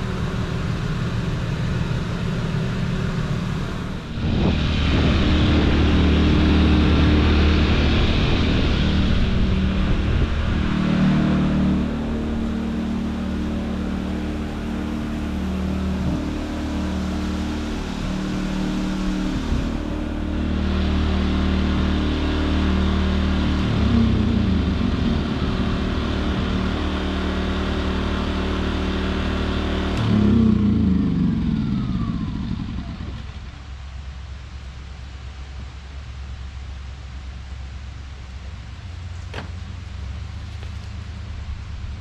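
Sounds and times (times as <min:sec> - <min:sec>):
generator engine hum: 0:00.0 - 0:42.0.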